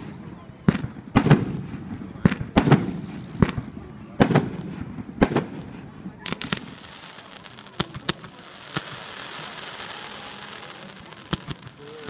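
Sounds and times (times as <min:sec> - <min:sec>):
firework bangs: 0:00.0 - 0:12.0
crackling hiss: 0:01.0 - 0:12.0.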